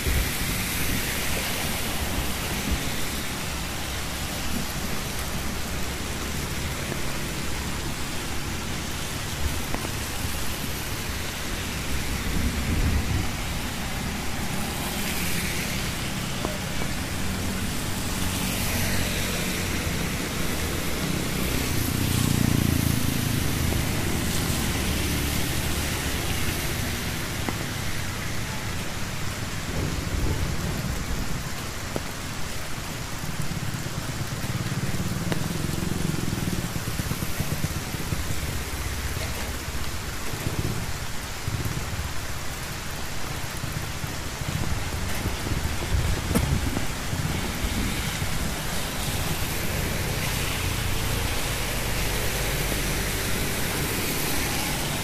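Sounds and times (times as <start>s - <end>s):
rain falling on wet street: 0.0s - 55.0s
vehicles rumbling on wet road: 0.0s - 55.0s.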